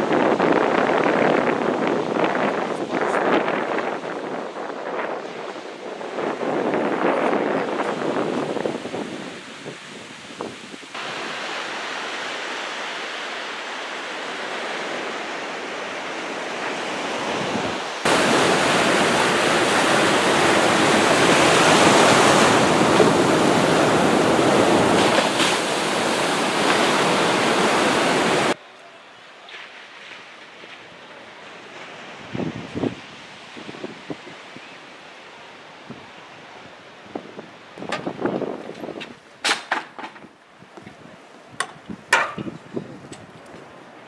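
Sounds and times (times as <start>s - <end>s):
wind on microphone: 0.0s - 28.6s, 31.6s - 34.8s, 35.8s - 39.3s, 40.2s - 44.0s
ocean surf breaking: 0.0s - 39.6s.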